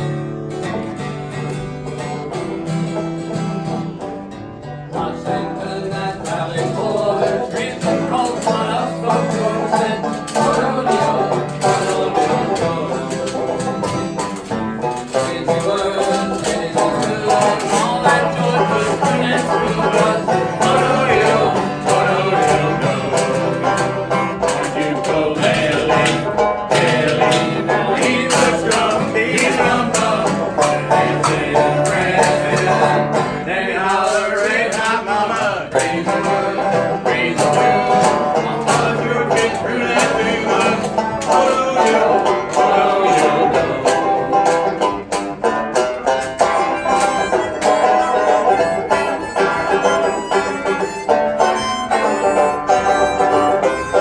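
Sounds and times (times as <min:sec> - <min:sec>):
jug band playing: 0:00.0 - 0:54.0
plucked banjo: 0:00.0 - 0:54.0
voices singing along: 0:04.8 - 0:54.0.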